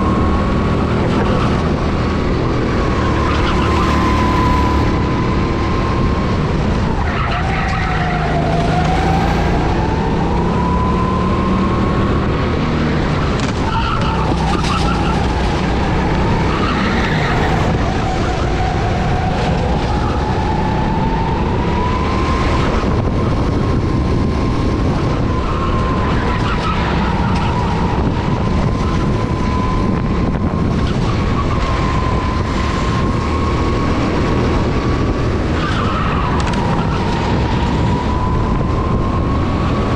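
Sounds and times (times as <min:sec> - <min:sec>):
go-kart engine buzzing: 0:00.0 - 0:39.9.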